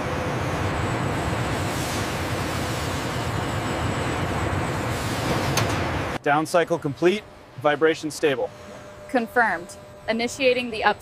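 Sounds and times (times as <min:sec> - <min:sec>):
factory machinery rumble: 0:00.0 - 0:11.0.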